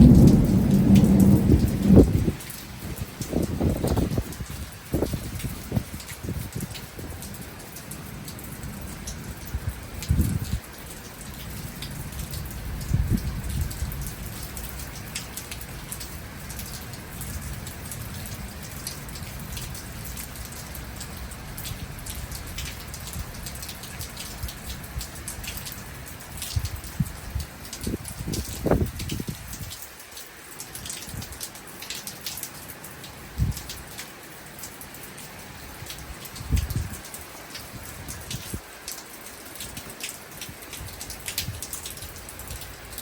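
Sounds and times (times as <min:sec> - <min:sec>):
rain drops ticking on a surface: 0:00.0 - 0:43.0.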